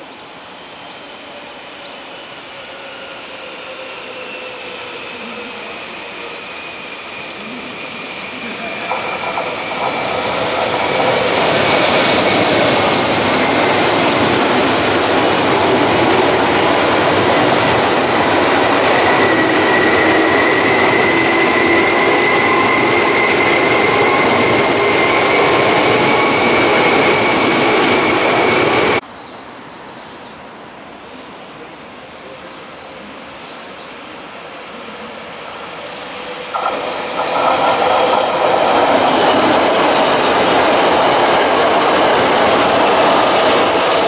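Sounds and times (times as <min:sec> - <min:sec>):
electric train running past: 0:00.0 - 0:29.0, 0:32.8 - 0:44.0.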